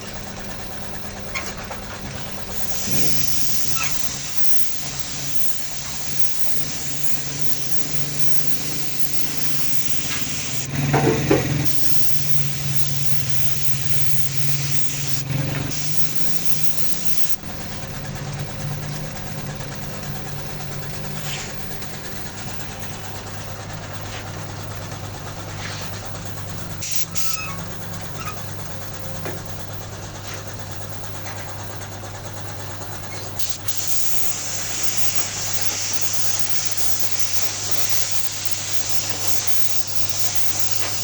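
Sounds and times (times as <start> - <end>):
small motor running with hiss: 0.0 - 41.0.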